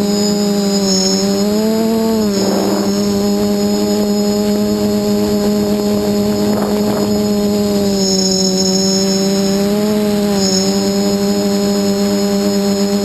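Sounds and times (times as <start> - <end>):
drone motors buzzing with whine: 0.0 - 13.0.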